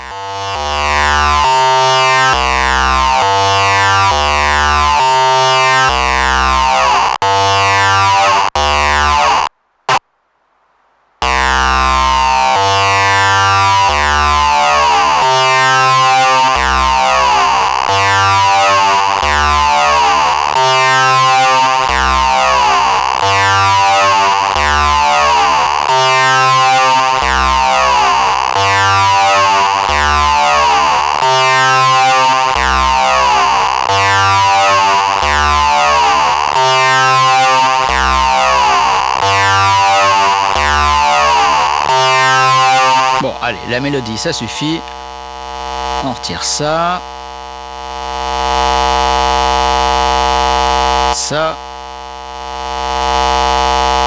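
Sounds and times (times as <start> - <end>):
buzzy synth melodic sequence: 0.0 - 9.5, 11.2 - 54.0.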